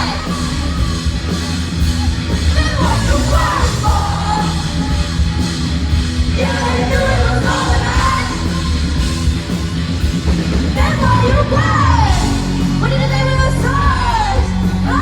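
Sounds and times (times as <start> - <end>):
live rock band: 0.0 - 15.0.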